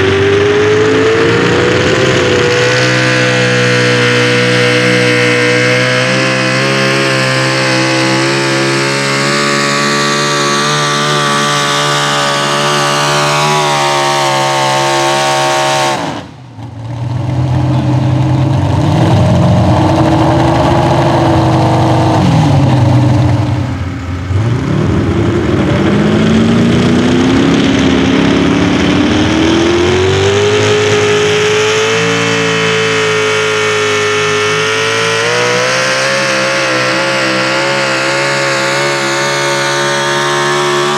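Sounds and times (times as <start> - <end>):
truck engine screaming at high rpm: 0.0 - 40.9.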